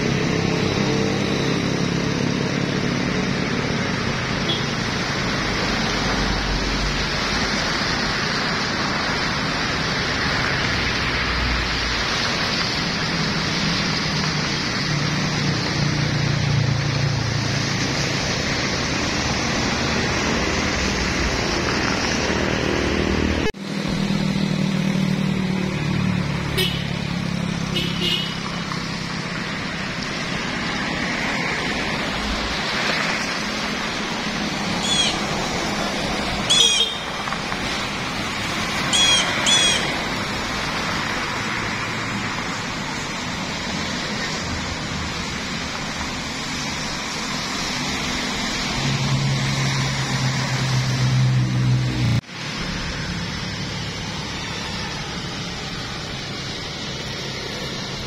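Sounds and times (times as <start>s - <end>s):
city road traffic hum: 0.0s - 58.0s
motorcycle and car engines: 0.0s - 58.0s.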